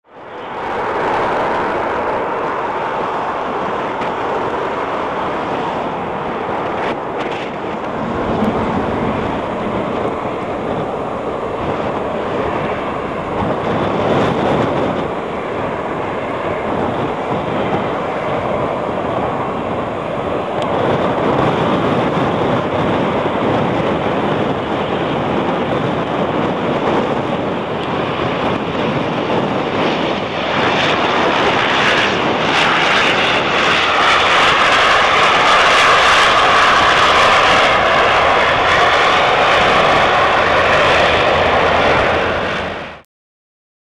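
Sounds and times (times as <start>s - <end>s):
airliner engines and propellers roaring: 0.0s - 43.0s
wind on microphone: 0.0s - 43.0s.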